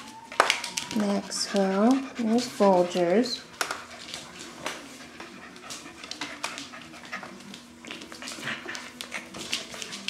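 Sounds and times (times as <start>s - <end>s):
puppies clicking and scuffling: 0.0s - 10.0s.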